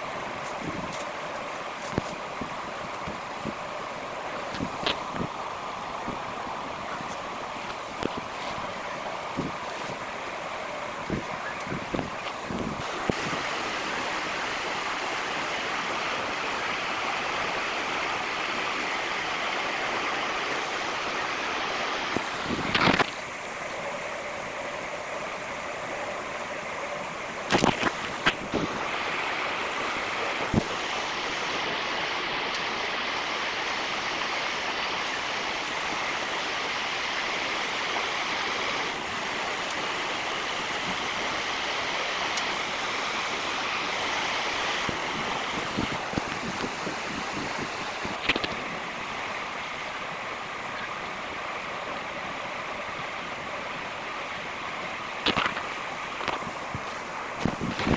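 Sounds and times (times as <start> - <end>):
steady rushing noise: 0.0 - 57.9.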